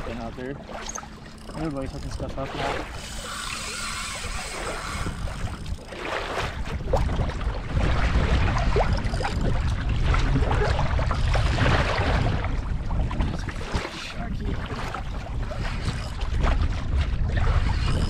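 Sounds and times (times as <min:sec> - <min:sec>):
water splashing against kayak hull: 0:00.0 - 0:18.0
wind buffeting microphone: 0:00.0 - 0:18.0.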